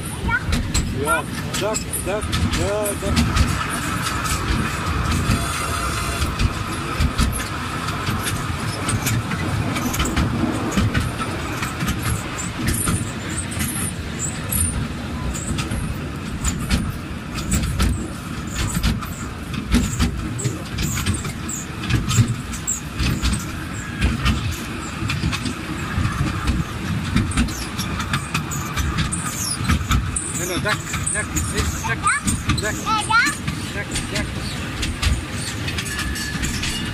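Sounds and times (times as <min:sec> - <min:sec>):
train carriage rattling and squeaking: 0:00.0 - 0:36.9
train low rumble: 0:00.0 - 0:36.9.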